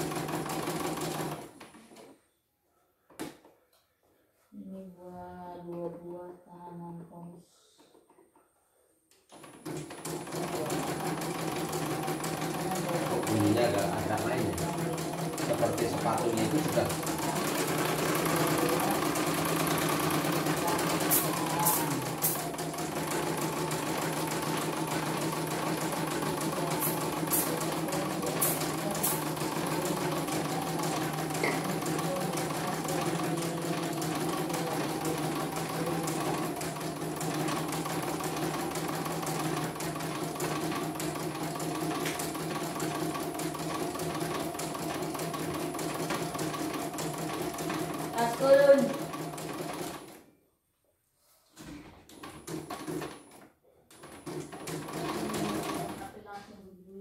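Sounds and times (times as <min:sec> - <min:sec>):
embroidery machine stitching: 0:00.0 - 0:01.6, 0:09.3 - 0:50.2, 0:52.1 - 0:56.2.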